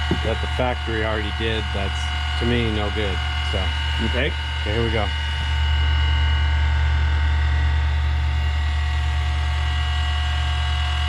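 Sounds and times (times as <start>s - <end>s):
grinding machine humming and whining: 0.0s - 11.0s.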